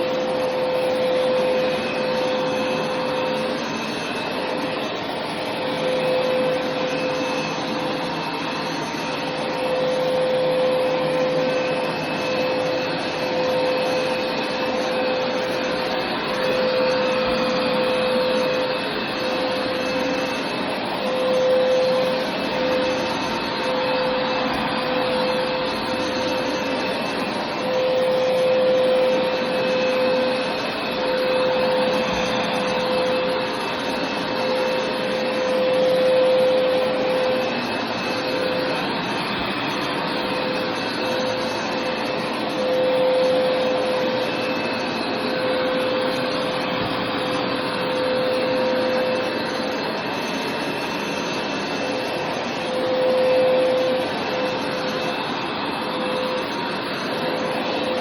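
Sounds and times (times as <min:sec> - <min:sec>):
carpet cleaning machine running: 0:00.0 - 0:58.0.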